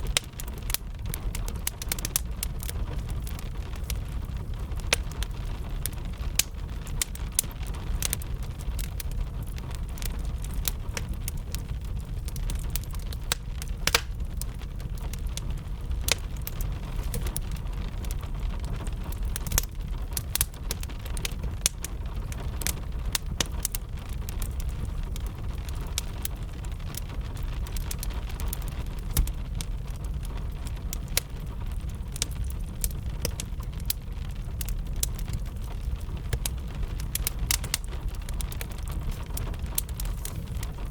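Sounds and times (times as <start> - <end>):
gentle rain: 0.0 - 40.9
wood fire crackling and popping: 0.0 - 40.9.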